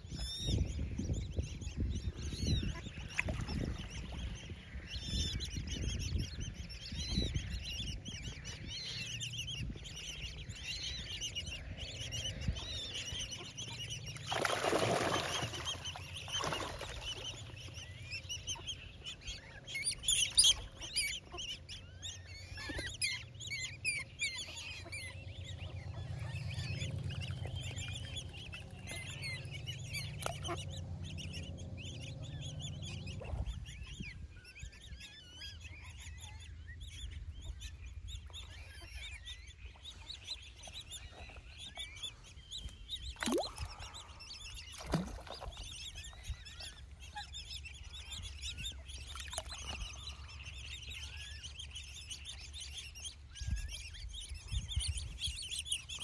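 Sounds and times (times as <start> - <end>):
ducks and coots calling: 0.0 - 56.0.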